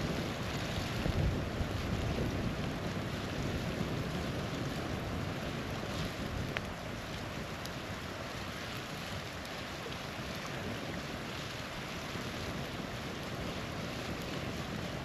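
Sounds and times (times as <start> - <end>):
faint campfire crackle: 0.0 - 15.0.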